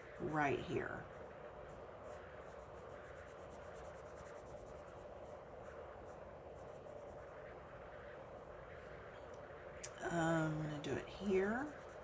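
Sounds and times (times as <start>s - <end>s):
pencil shading on paper: 0.0s - 9.7s, 10.4s - 12.0s.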